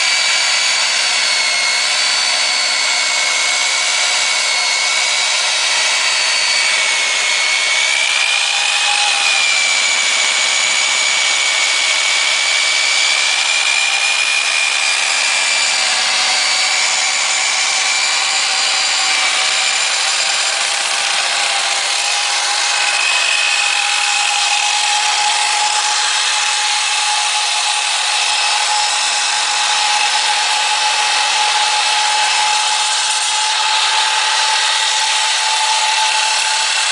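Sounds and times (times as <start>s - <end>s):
core drill motor whining: 0.0s - 36.9s.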